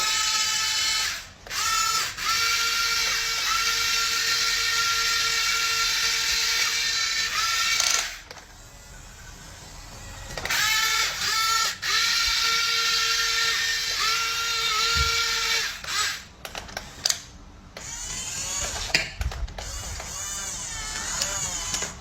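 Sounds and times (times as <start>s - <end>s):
small electric motor whining: 0.0s - 22.0s.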